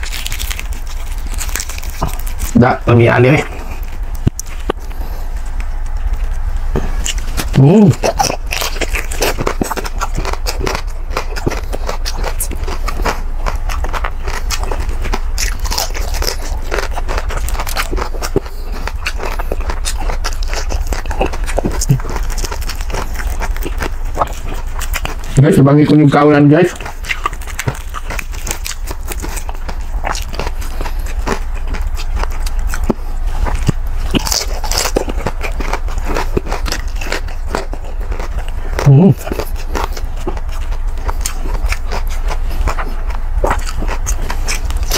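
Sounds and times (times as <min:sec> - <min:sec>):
crispy pork skin crunching: 0:00.0 - 0:44.9.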